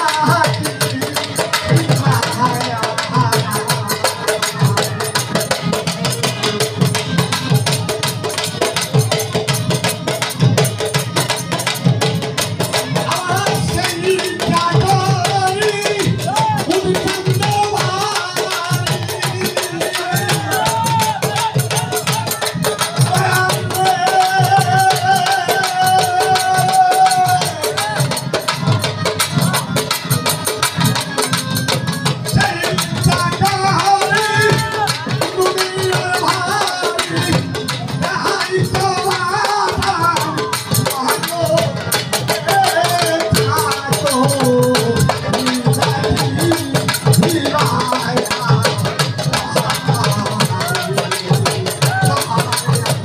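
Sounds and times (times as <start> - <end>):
drums beating a driving rhythm: 0.0 - 53.0
harmonium: 0.0 - 53.0
man singing: 0.0 - 53.0.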